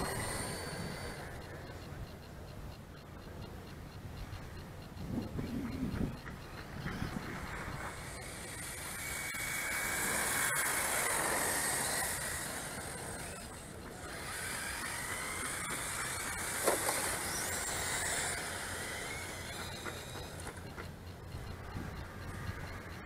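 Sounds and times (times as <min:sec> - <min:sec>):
model cars whining: 0:00.0 - 0:23.0.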